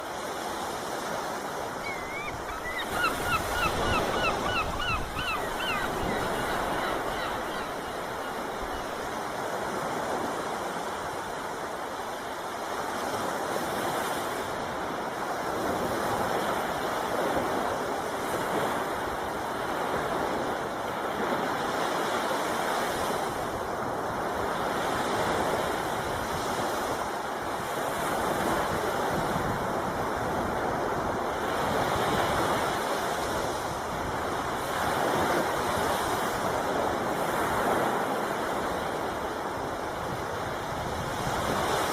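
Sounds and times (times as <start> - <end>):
sea surf washing onto beach: 0.0 - 41.9.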